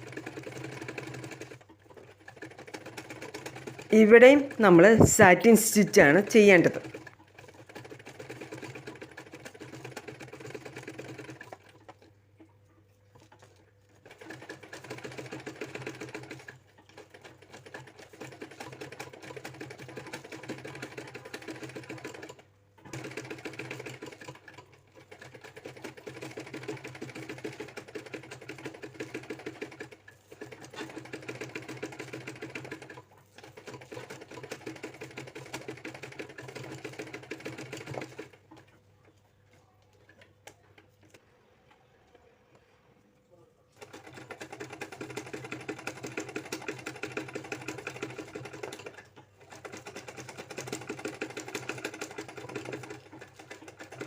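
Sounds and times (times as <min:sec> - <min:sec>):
sewing machine stitching: 0:00.0 - 0:41.9, 0:43.7 - 0:54.0.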